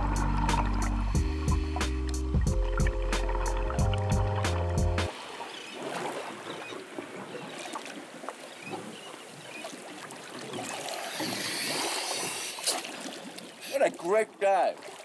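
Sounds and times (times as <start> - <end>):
sea water splashing and lapping: 0.0 - 15.0.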